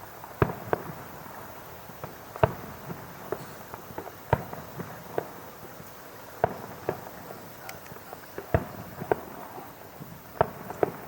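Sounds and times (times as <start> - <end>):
faint fireworks pops: 0.0 - 11.0
fireworks bangs: 0.0 - 11.0.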